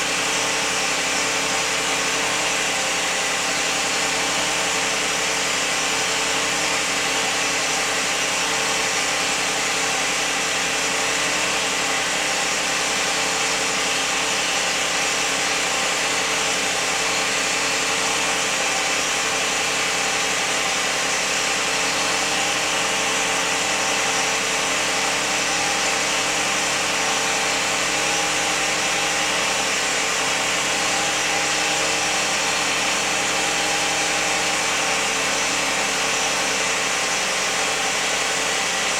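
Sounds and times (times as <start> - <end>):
car engine running with whine: 0.0 - 38.9.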